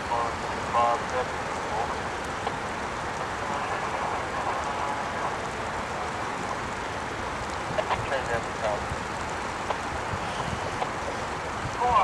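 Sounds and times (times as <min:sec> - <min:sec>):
freight cars rolling over steel bridge: 0:00.0 - 0:12.0
light rain hiss: 0:00.0 - 0:12.0.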